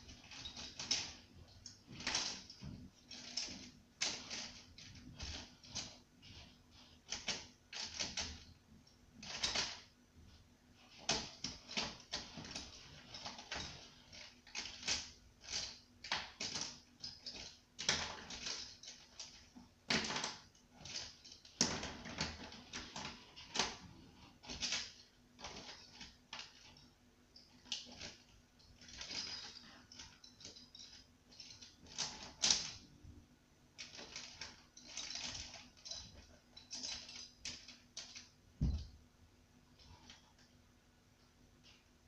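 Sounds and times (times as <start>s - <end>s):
pencils clicking and rattling: 0.0s - 9.9s, 10.8s - 32.9s, 33.8s - 38.9s.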